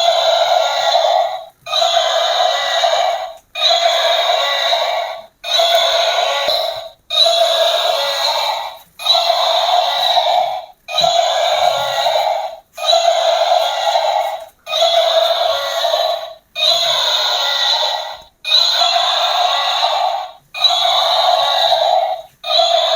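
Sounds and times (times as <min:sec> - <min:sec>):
raspy electronic toy call: 0:00.0 - 0:22.9.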